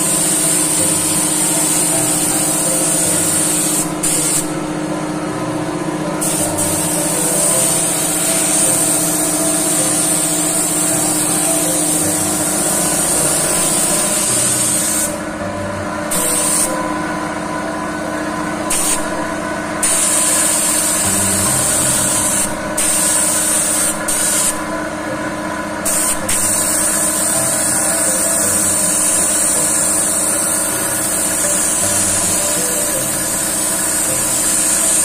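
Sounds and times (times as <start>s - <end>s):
spray gun hissing: 0.0s - 4.5s, 6.2s - 15.2s, 16.1s - 16.8s, 18.7s - 19.1s, 19.8s - 24.6s, 25.8s - 35.0s
steady machine hum: 0.0s - 35.0s.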